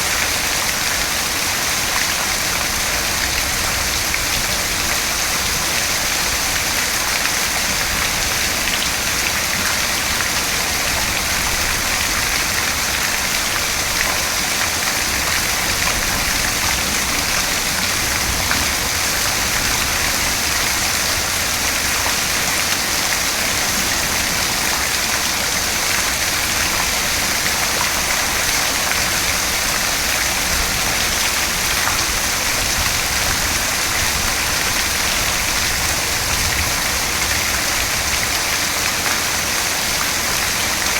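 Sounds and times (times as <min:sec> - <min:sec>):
steady dense rainfall: 0:00.0 - 0:40.9.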